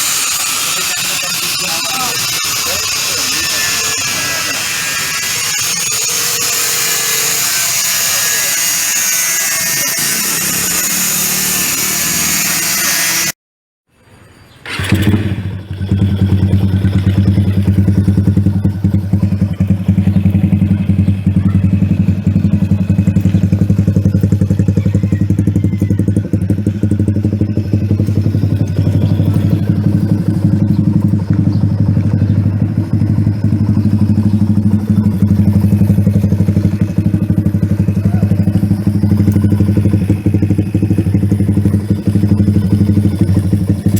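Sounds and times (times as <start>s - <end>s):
motorcycle engine idling: 0.0s - 13.2s, 14.6s - 43.9s.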